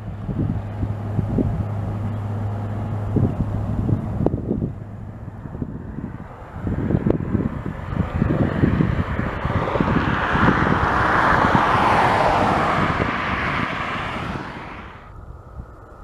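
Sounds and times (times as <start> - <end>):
jet engines hissing: 0.0 - 15.4
wind buffeting microphone: 0.0 - 16.0.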